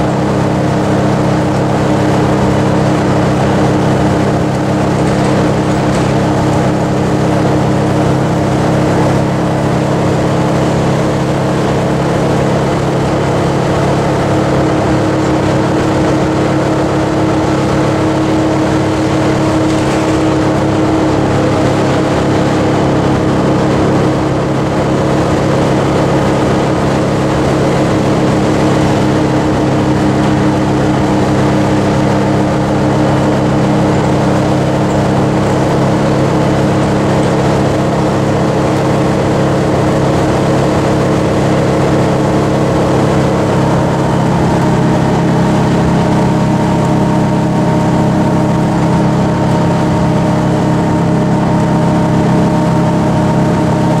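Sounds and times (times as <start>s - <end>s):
diesel bus engine running: 0.0s - 54.0s
road noise: 0.0s - 54.0s.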